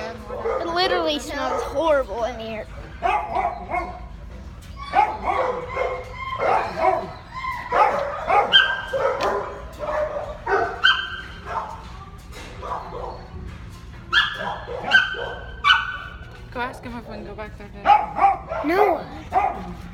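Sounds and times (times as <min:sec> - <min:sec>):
dogs barking and yipping: 0:00.0 - 0:16.5, 0:17.8 - 0:19.9.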